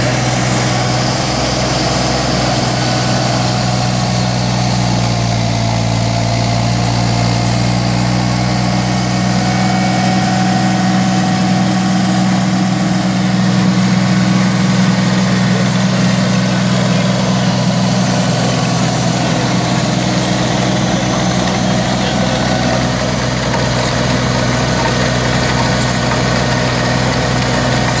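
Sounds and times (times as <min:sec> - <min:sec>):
chain trencher cutting soil: 0:00.0 - 0:28.0
tractor diesel engine running: 0:00.0 - 0:28.0.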